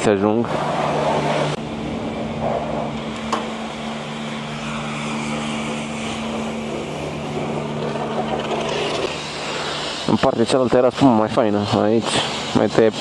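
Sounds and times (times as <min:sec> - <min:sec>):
pump mechanical hum: 0:00.0 - 0:13.0.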